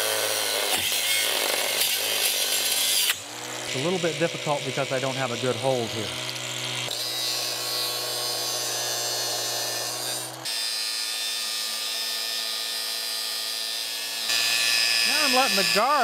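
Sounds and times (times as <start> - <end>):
angle grinder cutting steel: 0.0 - 16.0.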